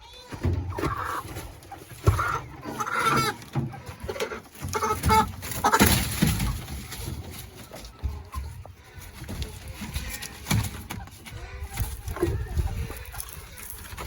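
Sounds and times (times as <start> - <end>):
chickens clucking and squawking: 0.0 - 14.0.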